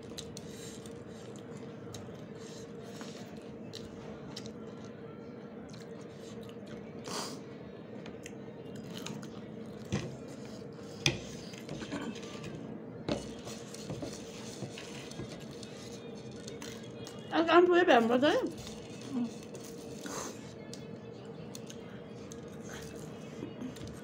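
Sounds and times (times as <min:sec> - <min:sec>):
people chewing crunchy food: 0:00.0 - 0:05.0, 0:05.6 - 0:07.4, 0:08.2 - 0:17.3, 0:18.4 - 0:24.0.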